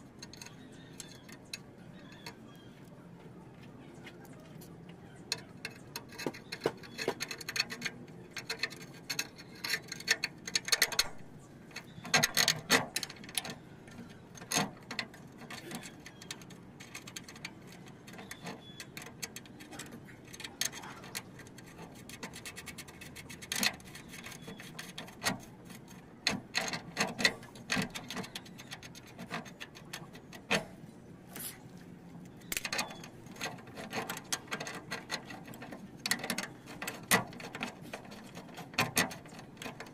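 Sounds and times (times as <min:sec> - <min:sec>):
cable clicking against metal bracket: 0:05.3 - 0:30.8, 0:32.2 - 0:39.9.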